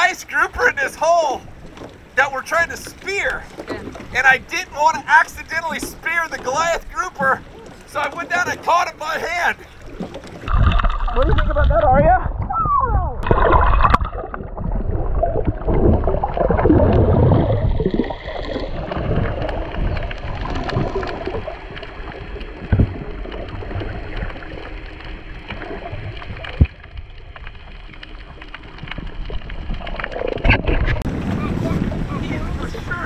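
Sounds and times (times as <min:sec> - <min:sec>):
underwater water rushing: 0:00.0 - 0:33.0.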